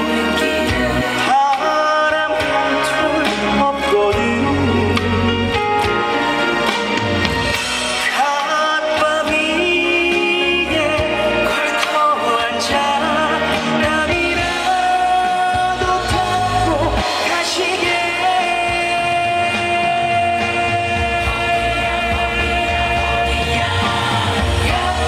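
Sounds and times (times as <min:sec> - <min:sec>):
man singing a slow ballad: 0:00.0 - 0:05.9, 0:08.0 - 0:25.0
backing band playing: 0:00.0 - 0:25.0.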